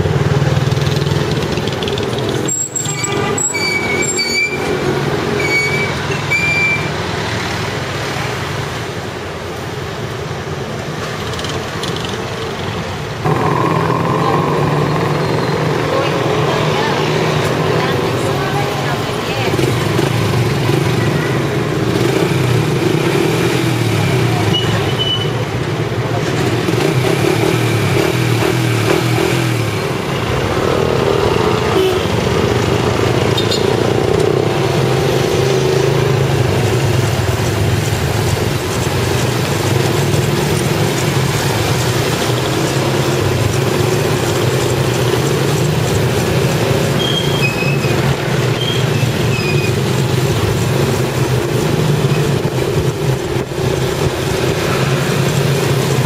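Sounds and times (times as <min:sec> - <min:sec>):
motorcycle and scooter engines: 0:00.0 - 0:56.0.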